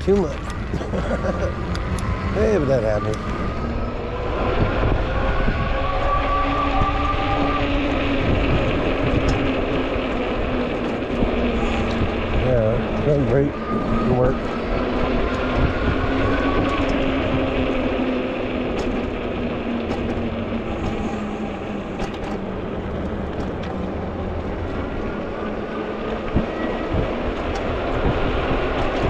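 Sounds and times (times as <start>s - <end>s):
steady motor hum: 0.0s - 29.0s
wind rushing over microphone: 0.0s - 29.0s.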